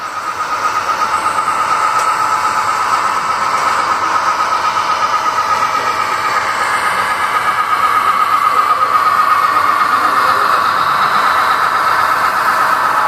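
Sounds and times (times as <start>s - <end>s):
model train whirring rumble: 0.0s - 13.0s.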